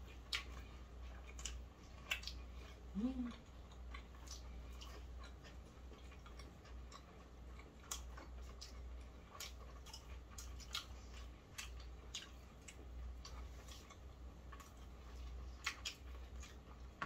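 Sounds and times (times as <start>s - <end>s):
chewing fried chicken: 0.0s - 17.0s
low steady hum: 0.0s - 17.0s.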